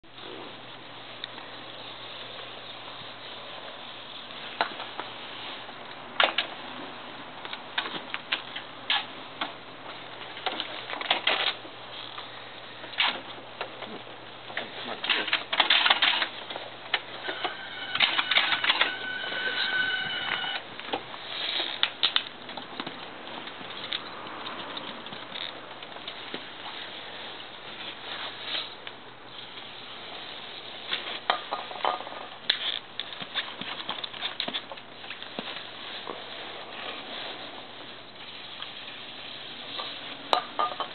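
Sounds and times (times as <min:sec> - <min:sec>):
steady background hiss: 0:00.1 - 0:40.9.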